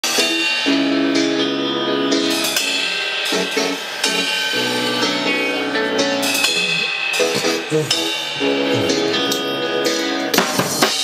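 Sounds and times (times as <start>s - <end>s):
cymbal and hi-hat strikes: 0.0s - 1.4s, 2.2s - 11.0s
backing track with held chords: 0.0s - 11.0s
drum kit playing: 0.0s - 11.0s.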